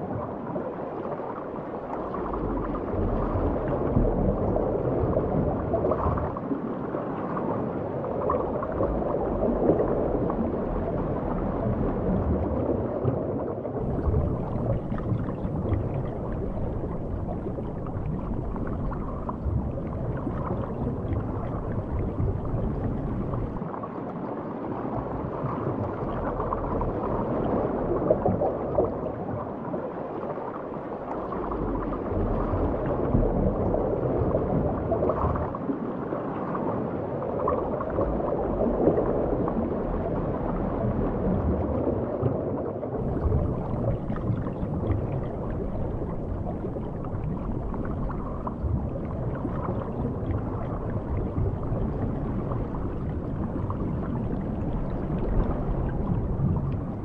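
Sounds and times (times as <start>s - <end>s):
underwater rushing and gurgling: 0.0s - 57.0s.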